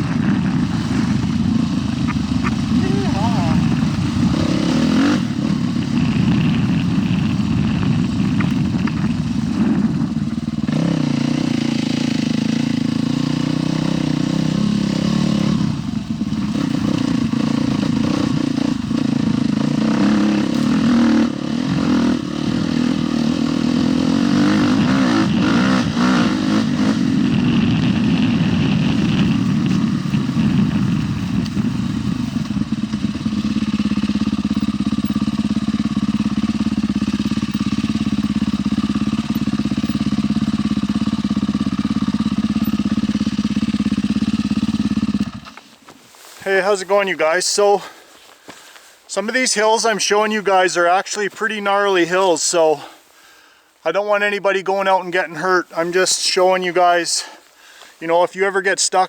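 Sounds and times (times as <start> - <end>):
motorcycle engine revving: 0.0 - 48.2.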